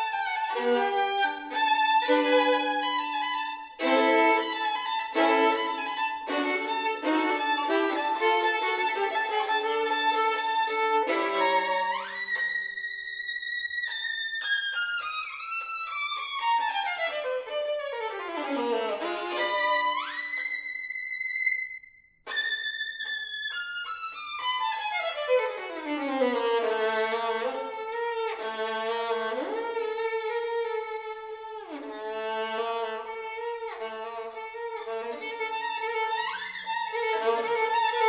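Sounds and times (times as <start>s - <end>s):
violin playing fast runs: 0.0s - 21.6s, 22.3s - 38.0s.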